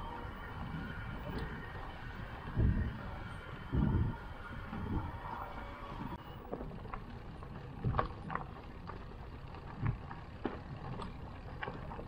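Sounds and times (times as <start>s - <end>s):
bike rattling over bumps: 0.0s - 12.0s
tyres and wind rumbling: 0.0s - 12.0s.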